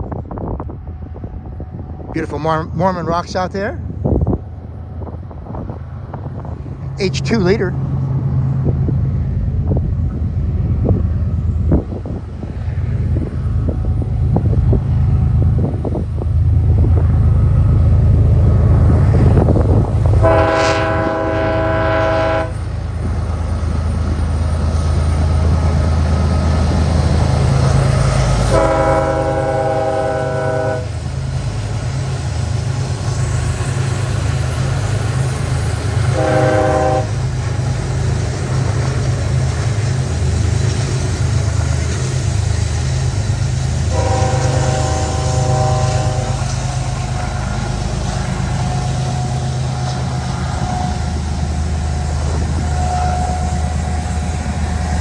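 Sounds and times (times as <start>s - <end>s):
locomotive low rumble: 0.0s - 55.0s
freight cars rolling by: 2.2s - 55.0s.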